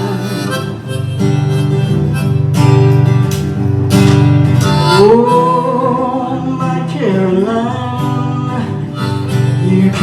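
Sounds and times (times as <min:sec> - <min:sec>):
harmonica long held notes: 0:00.0 - 0:06.7, 0:08.0 - 0:10.0
acoustic guitar strumming: 0:00.0 - 0:10.0.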